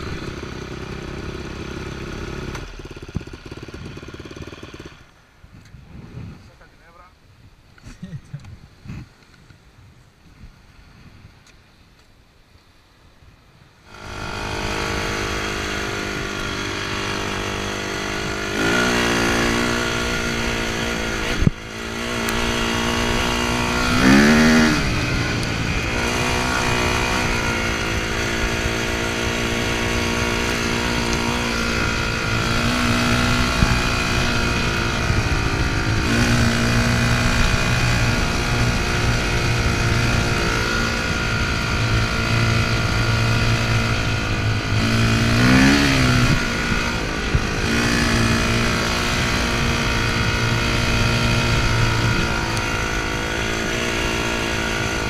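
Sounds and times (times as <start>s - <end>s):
dirt bike engine revving: 0.0s - 5.1s, 13.9s - 55.0s.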